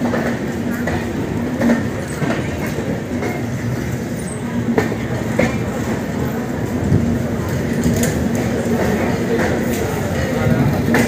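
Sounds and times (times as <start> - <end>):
train wheels rumbling on rail: 0.0 - 11.0
wheels clicking over rail joints: 0.0 - 11.0.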